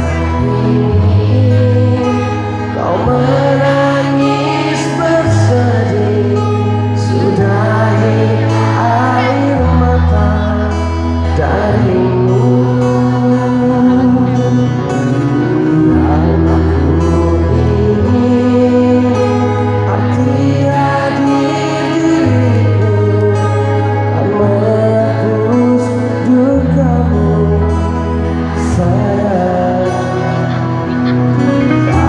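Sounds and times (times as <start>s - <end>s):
live band playing slow song: 0.0s - 32.0s
man singing: 0.0s - 32.0s
steady bass notes: 0.0s - 32.0s.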